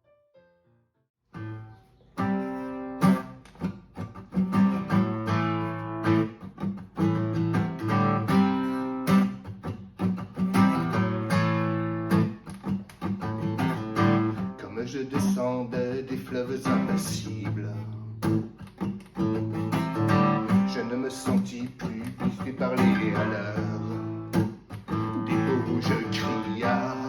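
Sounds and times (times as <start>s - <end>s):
acoustic guitar strumming chords: 1.4s - 27.0s.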